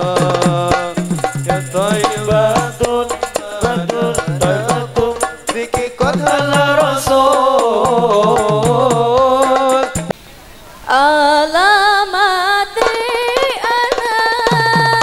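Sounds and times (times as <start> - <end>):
devotional music with drum beat: 0.0 - 10.2, 12.8 - 15.0.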